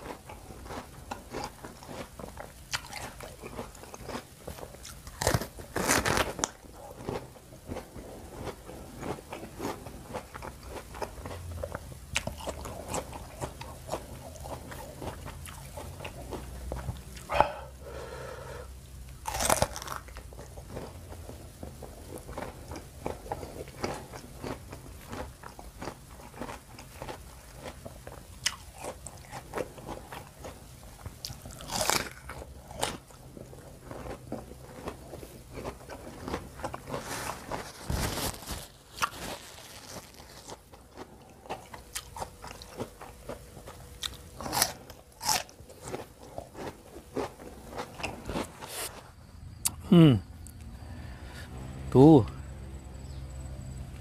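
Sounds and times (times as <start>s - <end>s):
crunchy apple bites: 0.0s - 18.3s, 18.9s - 51.2s
wet chewing: 0.0s - 49.0s.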